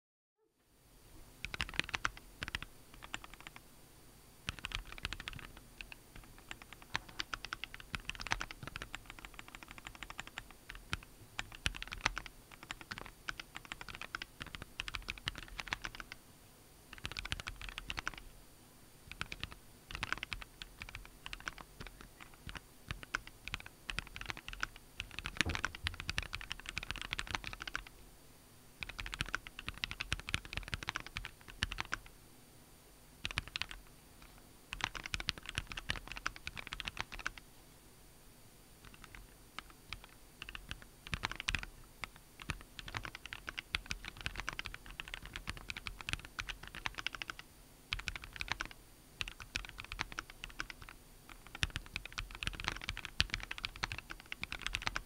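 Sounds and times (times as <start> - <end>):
mechanical keyboard typing: 1.4 - 3.6, 4.5 - 16.2, 16.9 - 18.2, 19.1 - 27.9, 28.8 - 32.1, 33.2 - 33.8, 34.7 - 37.4, 38.8 - 55.0.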